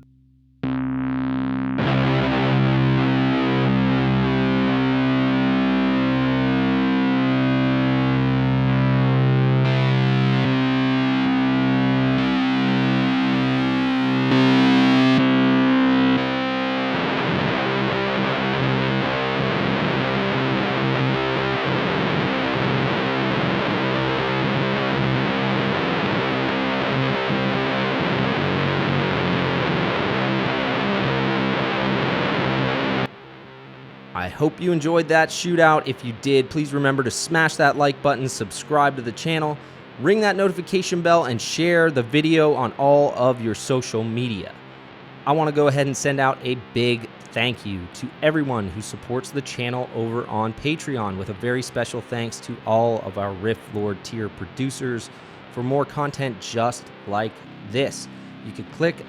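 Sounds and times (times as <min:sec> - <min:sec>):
distorted electric guitar chords: 0:00.0 - 0:59.0.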